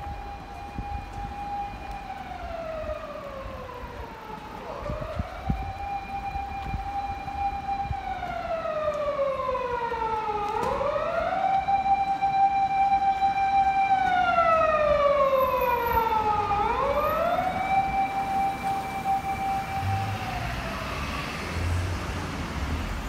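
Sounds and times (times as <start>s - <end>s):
fire engine siren wailing: 0.0s - 23.0s.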